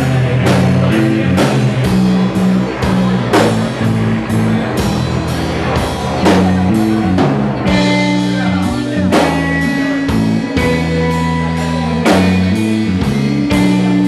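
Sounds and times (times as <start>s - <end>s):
bass and guitar notes: 0.0s - 14.0s
drum and cymbal hits: 0.0s - 14.0s.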